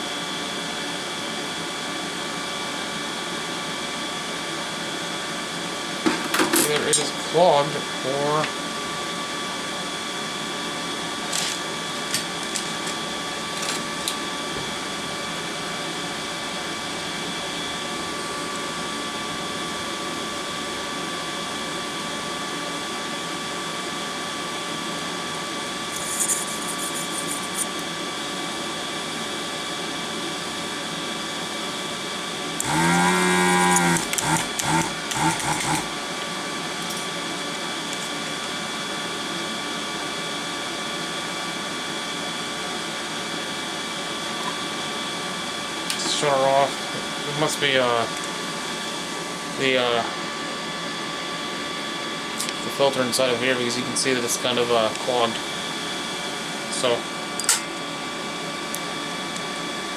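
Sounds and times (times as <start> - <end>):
vacuum pump humming: 5.5 - 59.9.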